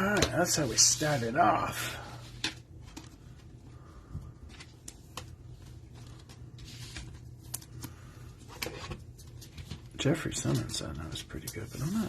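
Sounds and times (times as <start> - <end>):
cards rustling: 0.1 - 12.0.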